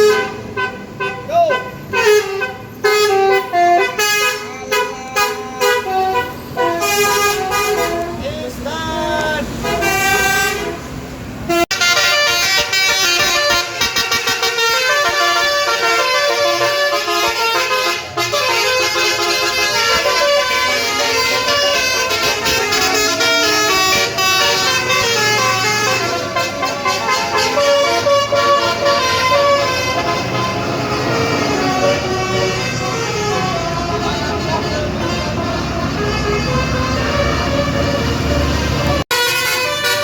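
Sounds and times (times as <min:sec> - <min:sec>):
bus air horns playing tune: 0:00.0 - 0:40.0
chord of several horns: 0:02.0 - 0:08.3, 0:11.5 - 0:40.0.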